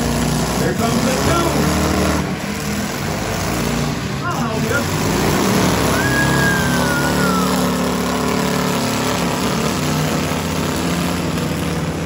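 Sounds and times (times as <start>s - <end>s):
car engines running loud: 0.0s - 12.0s.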